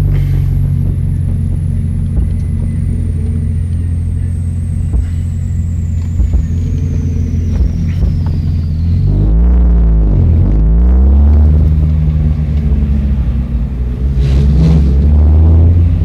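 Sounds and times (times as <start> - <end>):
car engine misfiring under load: 0.0 - 16.0.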